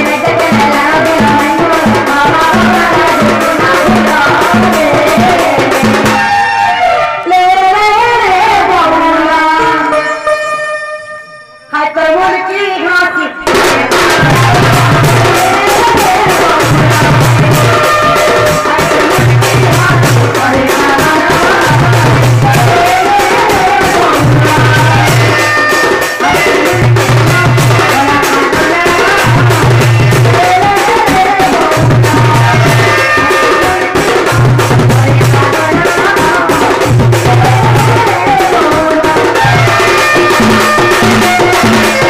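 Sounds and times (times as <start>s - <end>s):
woman singing through microphone: 0.0s - 6.4s, 7.0s - 10.2s, 11.7s - 42.0s
barrel drum: 0.0s - 6.8s, 13.4s - 42.0s
fast percussion: 0.0s - 10.1s, 13.4s - 42.0s.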